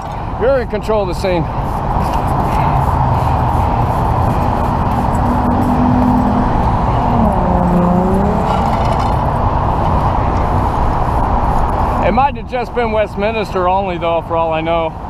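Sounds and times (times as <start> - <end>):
freeway traffic roar: 0.0 - 15.0
vehicle engine passing: 0.5 - 14.0.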